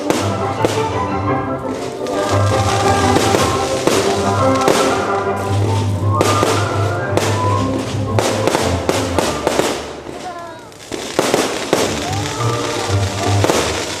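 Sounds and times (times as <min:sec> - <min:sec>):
loud music: 0:00.0 - 0:10.0, 0:11.2 - 0:14.0
fireworks banging: 0:00.0 - 0:14.0.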